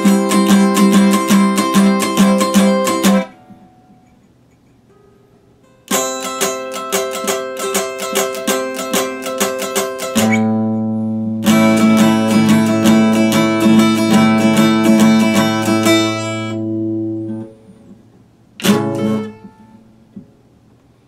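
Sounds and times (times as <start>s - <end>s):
guitar chord ringing: 0.0s - 4.2s, 4.9s - 17.9s, 18.6s - 20.5s
acoustic guitar picking: 0.0s - 21.0s.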